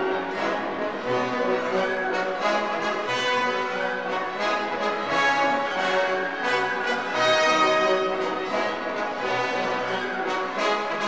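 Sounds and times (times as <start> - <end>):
orchestral music with horns: 0.0 - 11.0.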